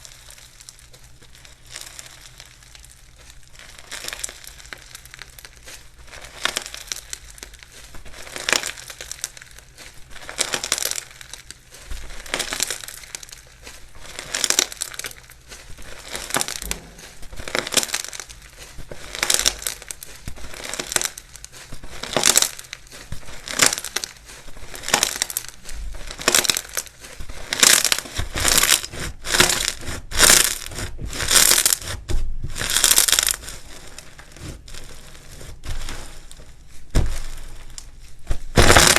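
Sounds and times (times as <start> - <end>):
slime crackling being squeezed: 0.0 - 38.9.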